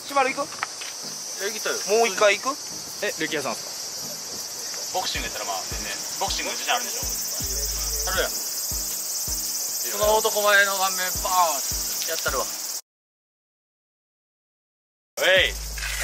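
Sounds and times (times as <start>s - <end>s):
cicadas droning: 0.0s - 12.8s, 15.2s - 16.0s.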